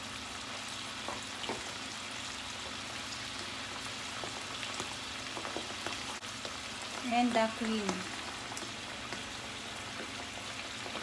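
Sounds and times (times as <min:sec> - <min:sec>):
mushrooms sizzling in frying pan: 0:00.0 - 0:11.0.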